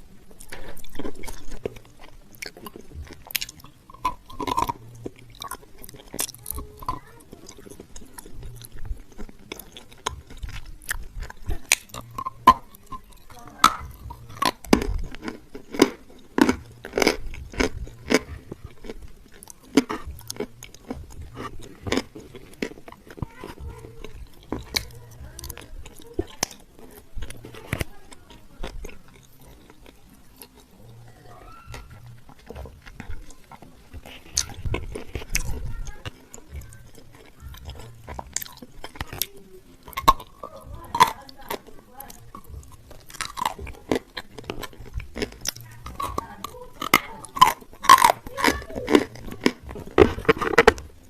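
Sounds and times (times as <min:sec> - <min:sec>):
crunching and chewing: 0:00.0 - 0:51.0.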